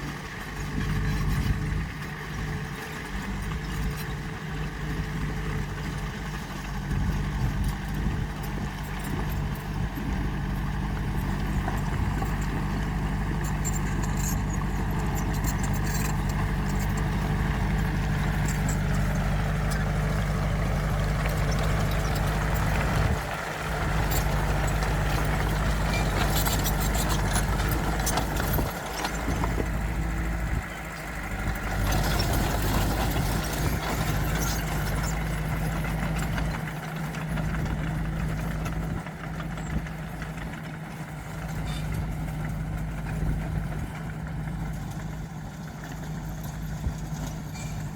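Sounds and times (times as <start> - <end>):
faint rattles and clanks: 0.0 - 47.9
heavy diesel engine running: 0.0 - 47.9.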